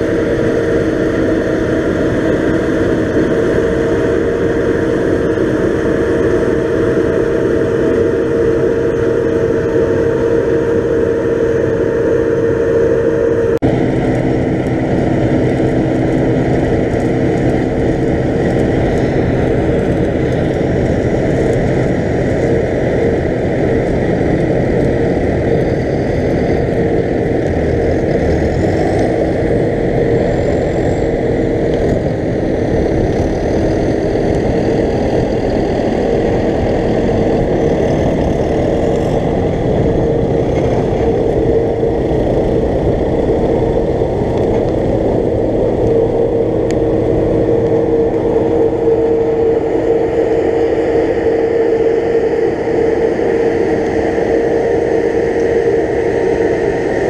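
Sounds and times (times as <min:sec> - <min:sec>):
diesel engine drone: 0:00.0 - 0:57.0
harvesting machinery working: 0:00.0 - 0:57.0.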